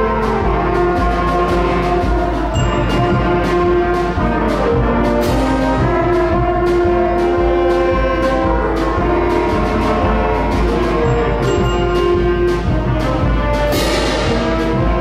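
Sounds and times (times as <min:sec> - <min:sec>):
brass sustained chords: 0:00.0 - 0:15.0
drum and cymbal strokes: 0:00.0 - 0:15.0.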